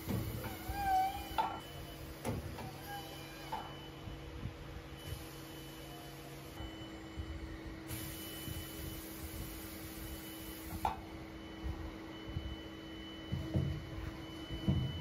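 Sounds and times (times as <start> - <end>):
lathe mechanical hum: 0.0 - 15.0.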